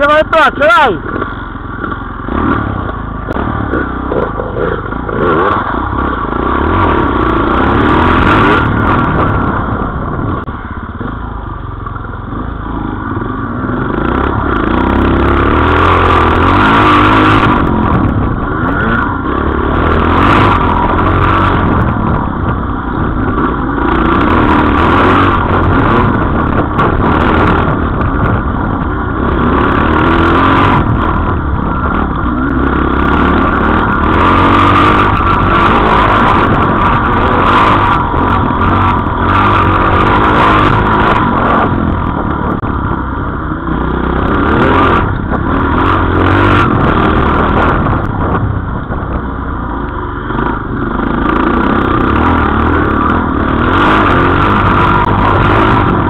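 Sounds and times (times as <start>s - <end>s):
off-road motorcycle engines revving: 0.0s - 56.0s.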